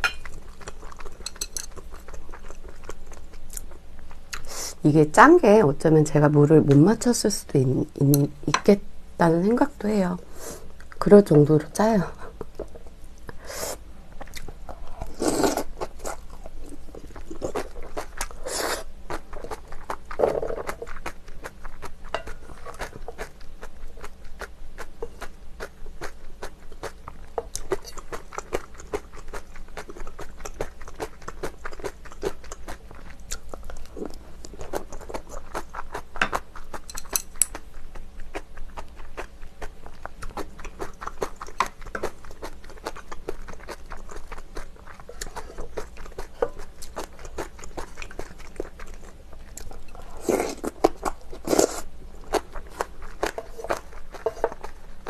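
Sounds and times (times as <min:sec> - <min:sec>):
close chewing and mouth sounds: 0:00.0 - 0:04.7, 0:14.0 - 0:55.0.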